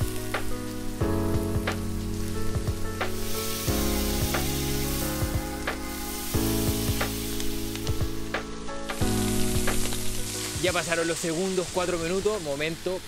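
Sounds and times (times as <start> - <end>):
background music with held chords: 0.0 - 13.0
steak sizzling on a grill: 0.0 - 13.0.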